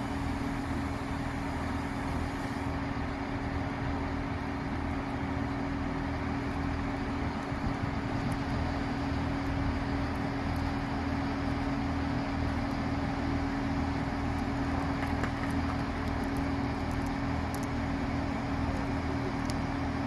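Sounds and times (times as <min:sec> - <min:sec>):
diesel train engines idling: 0:00.0 - 0:20.0.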